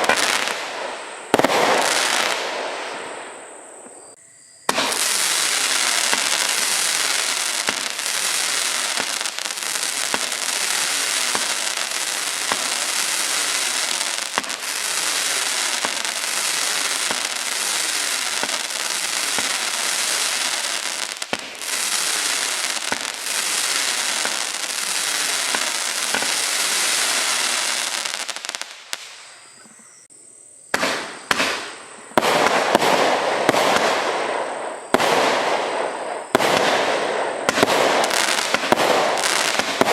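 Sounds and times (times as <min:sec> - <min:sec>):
firework barrage crackling: 0:00.0 - 0:03.7, 0:04.6 - 0:29.3, 0:30.8 - 0:39.9
loud firework bursts: 0:00.0 - 0:03.8, 0:04.6 - 0:29.3, 0:30.7 - 0:39.9.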